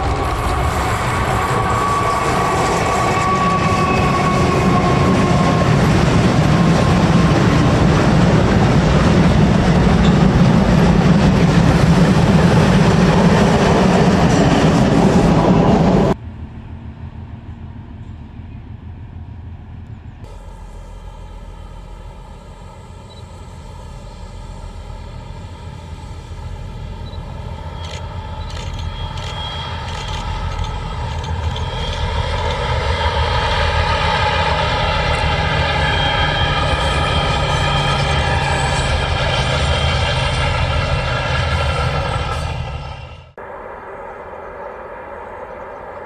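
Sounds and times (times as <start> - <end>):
diesel locomotive engine: 0.0 - 46.0.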